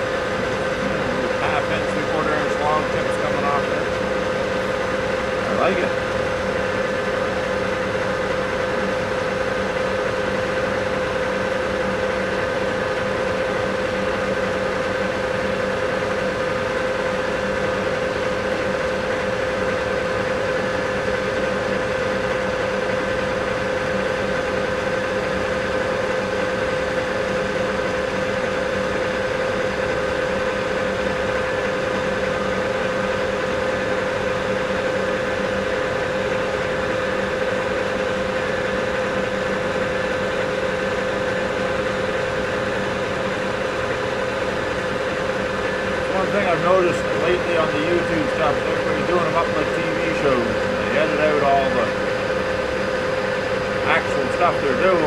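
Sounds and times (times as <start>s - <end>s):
metal lathe whine: 0.0s - 55.0s.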